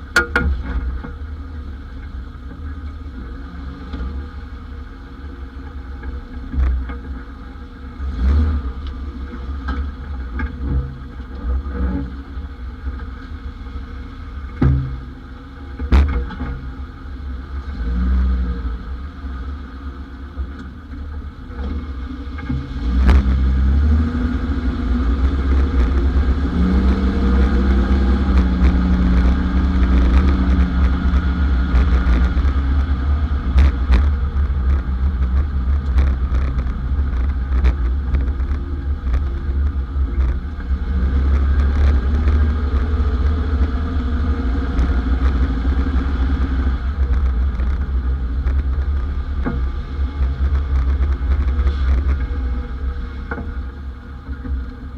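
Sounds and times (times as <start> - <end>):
road and engine rumble: 0.0 - 54.9.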